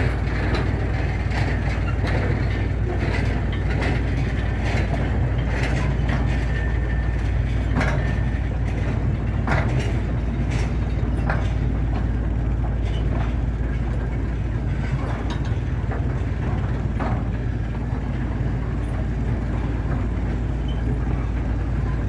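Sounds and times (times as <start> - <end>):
locomotive engine drone: 0.0 - 22.0
wheels and couplings knocking: 0.0 - 22.0.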